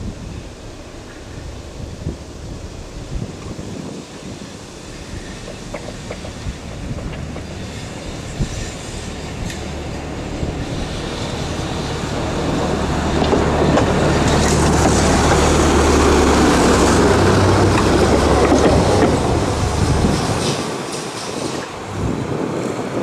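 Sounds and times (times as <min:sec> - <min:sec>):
tram wheels clacking on rails: 0:00.0 - 0:23.0.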